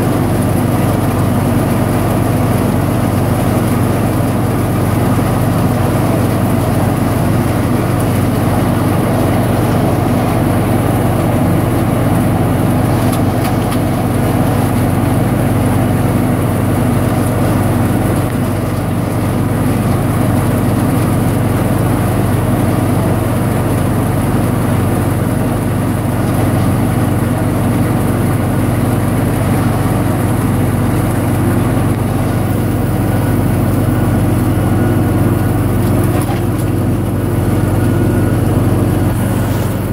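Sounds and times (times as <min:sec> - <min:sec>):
forage harvester chopping corn: 0:00.0 - 0:39.9
tractor engine under load: 0:00.0 - 0:39.9.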